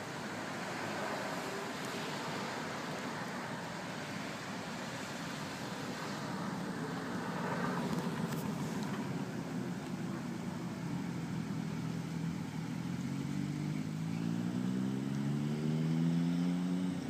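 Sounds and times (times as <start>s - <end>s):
passing vehicle engine and tyres: 0.0s - 17.0s.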